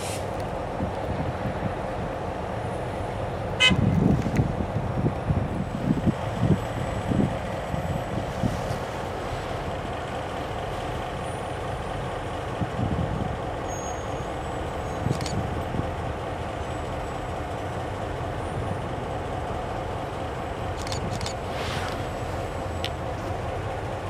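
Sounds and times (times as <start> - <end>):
diesel locomotives idling: 0.0 - 24.0.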